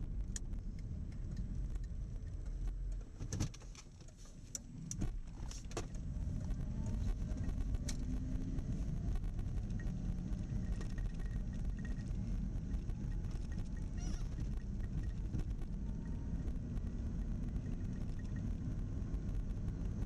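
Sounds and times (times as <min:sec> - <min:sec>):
road and tyre noise in car cabin: 0:00.0 - 0:20.0.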